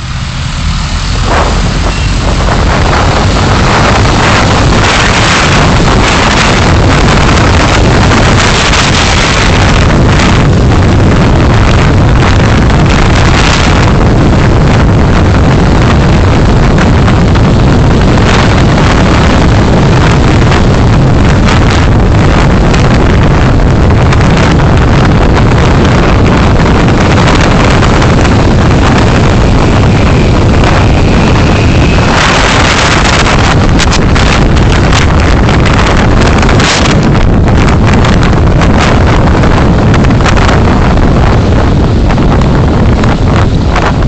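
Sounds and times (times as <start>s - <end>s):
car road and wind noise: 0.0s - 44.0s.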